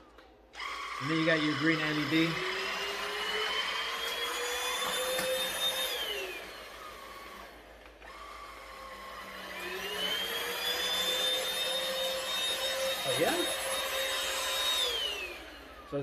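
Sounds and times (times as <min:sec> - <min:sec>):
vacuum motor whining: 0:00.1 - 0:16.0.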